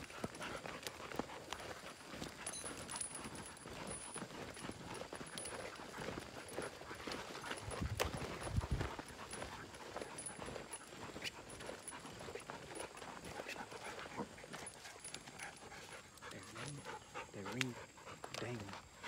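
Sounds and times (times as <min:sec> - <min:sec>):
footsteps on dirt trail: 0:00.0 - 0:19.0
gear rustling and clinking: 0:00.0 - 0:19.0.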